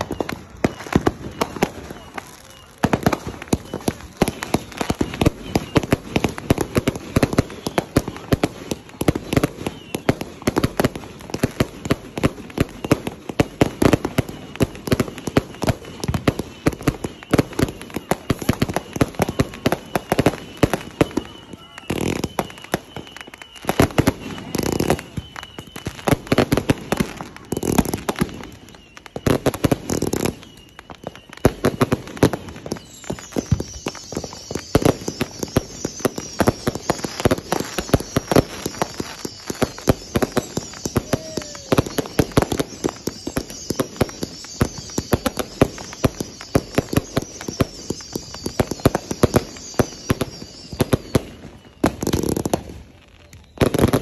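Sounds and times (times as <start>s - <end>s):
fireworks launching and bursting: 0.0s - 54.0s.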